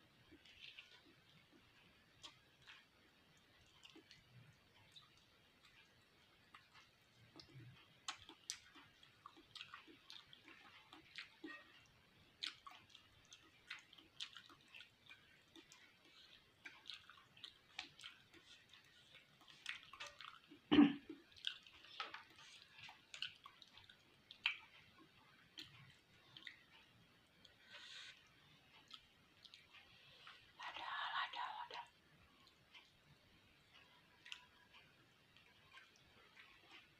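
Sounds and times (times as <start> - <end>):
wet chewing mouth sounds: 0.2 - 30.8, 33.7 - 36.9.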